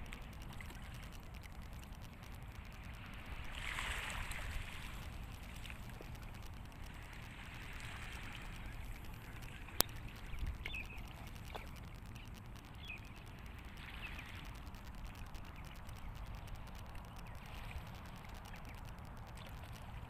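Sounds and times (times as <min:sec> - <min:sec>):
water lapping on rocks: 0:00.0 - 0:16.7.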